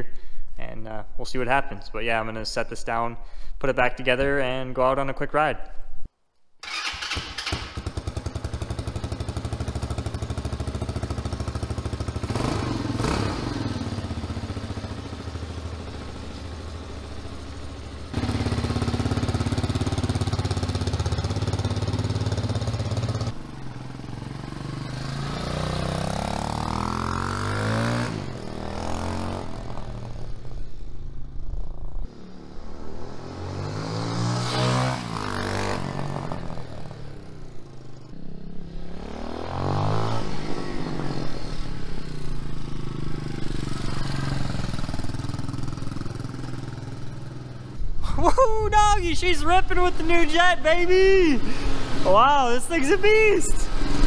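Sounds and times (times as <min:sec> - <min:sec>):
motorcycle engine idling and revving: 0:06.6 - 0:54.0.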